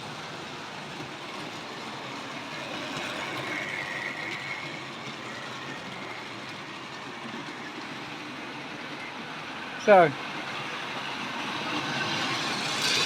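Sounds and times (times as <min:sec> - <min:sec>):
model train motors running on track: 0:00.0 - 0:13.0.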